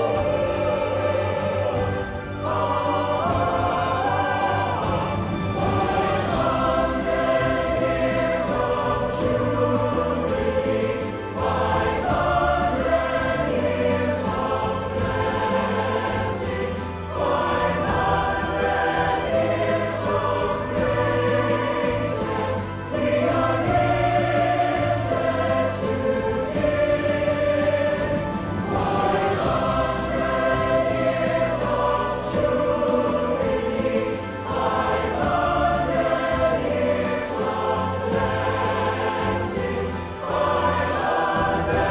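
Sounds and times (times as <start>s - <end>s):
choir singing with instruments: 0.0s - 41.9s.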